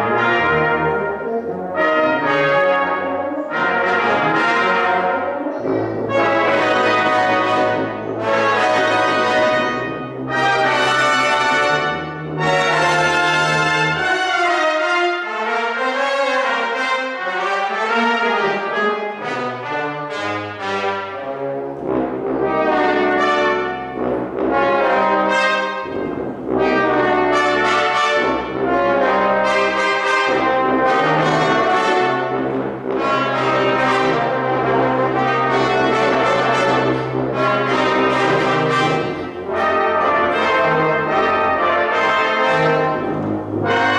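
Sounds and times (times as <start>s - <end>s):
brass ensemble playing: 0.0s - 43.9s.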